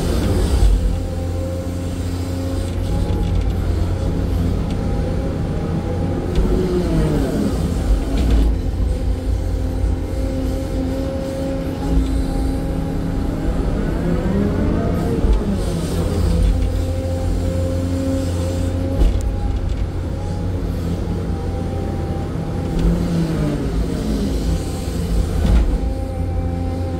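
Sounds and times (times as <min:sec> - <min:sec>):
excavator engine rumbling: 0:00.0 - 0:26.9
hydraulic whine: 0:00.0 - 0:26.9.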